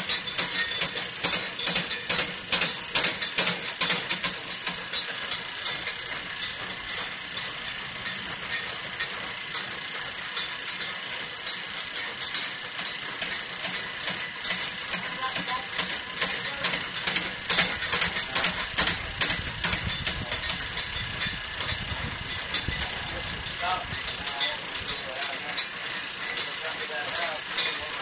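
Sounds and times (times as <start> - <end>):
cable rattling and clicking: 0.0 - 9.8, 10.4 - 28.0
motorised drain snake running: 0.0 - 28.0.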